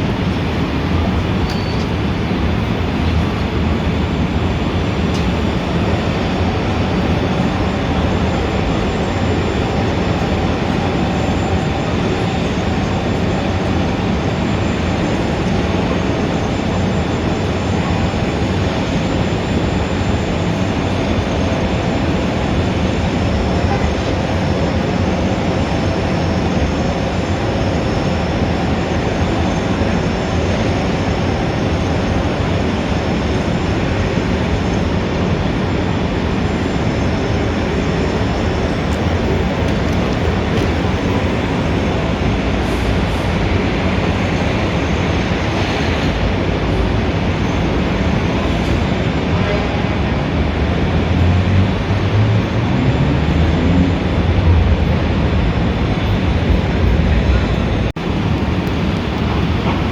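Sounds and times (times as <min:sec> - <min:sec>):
dense city traffic: 0:00.0 - 0:59.9.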